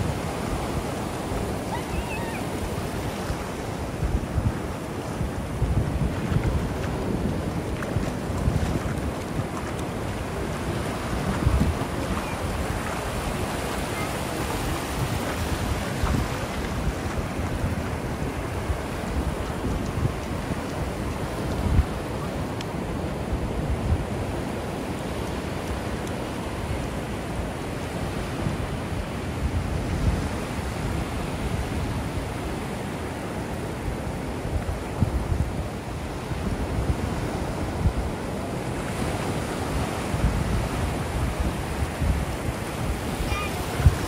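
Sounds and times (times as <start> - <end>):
wind buffeting microphone: 0.0 - 33.2, 33.8 - 44.0
ocean surf washing onto beach: 0.0 - 44.0.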